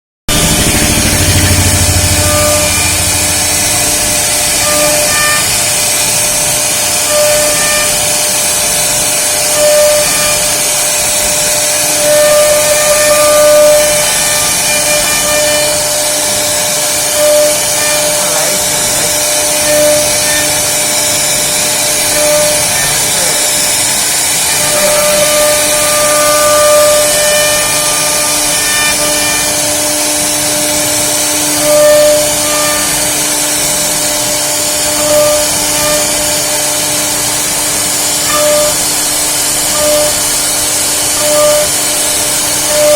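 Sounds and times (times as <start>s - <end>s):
machine axis tones: 0.3s - 42.9s
router spindle hissing: 0.3s - 42.9s.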